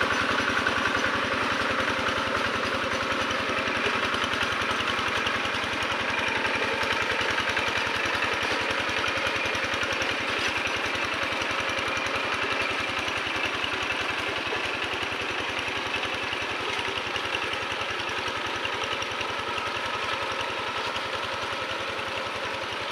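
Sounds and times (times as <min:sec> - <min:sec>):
diesel engine chugging: 0:00.0 - 0:22.9.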